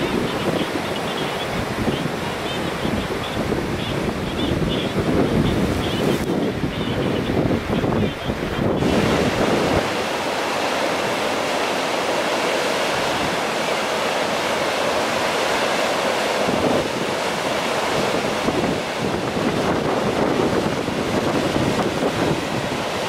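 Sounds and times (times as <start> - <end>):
wind buffeting microphone: 0.0 - 11.6, 12.7 - 23.0
river rushing: 0.0 - 23.0.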